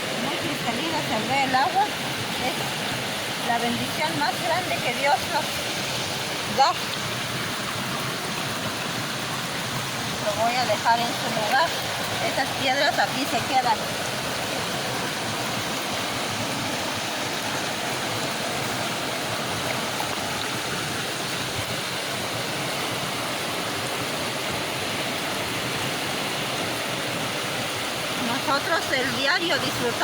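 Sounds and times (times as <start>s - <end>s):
river water rushing over stones: 0.0s - 30.0s.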